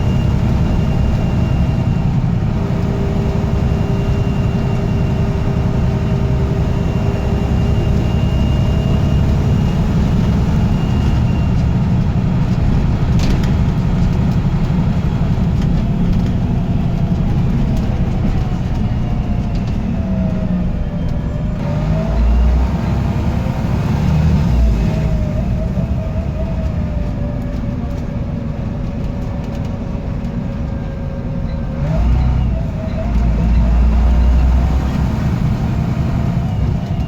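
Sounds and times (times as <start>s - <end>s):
diesel bus engine rumble: 0.0s - 37.0s
low engine whine: 0.0s - 37.0s.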